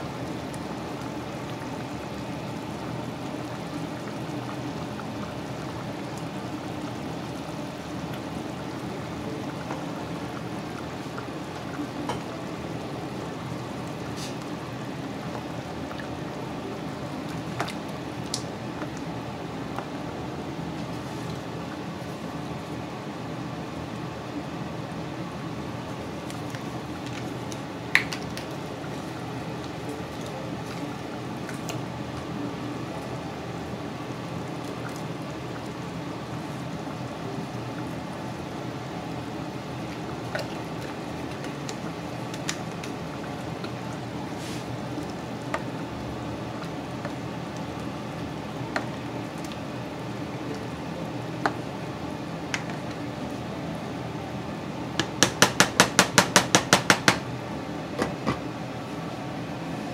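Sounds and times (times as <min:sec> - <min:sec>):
pot simmering bubbling hiss: 0:00.0 - 0:59.9.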